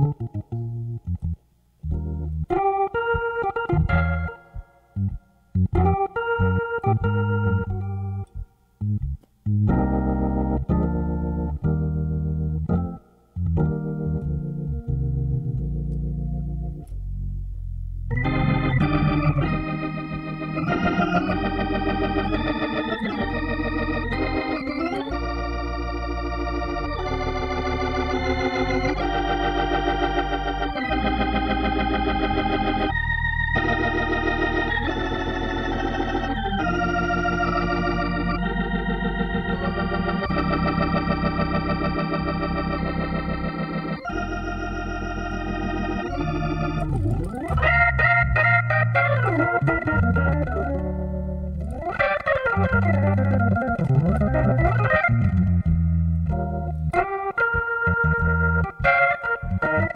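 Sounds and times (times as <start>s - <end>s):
low bass line: 0.0s - 59.9s
organ chords: 0.0s - 59.9s.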